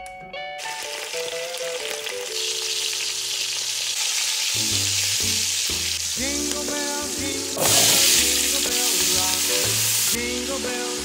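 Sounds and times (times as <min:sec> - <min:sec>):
background music: 0:00.0 - 0:03.6, 0:04.6 - 0:11.0
meat sizzling in hot oil: 0:00.6 - 0:11.0.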